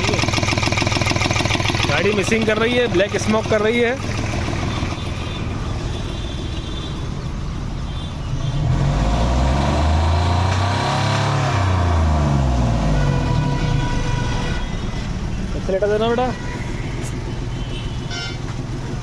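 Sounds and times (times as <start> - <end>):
car engine idling unevenly and revving: 0.0 - 19.0.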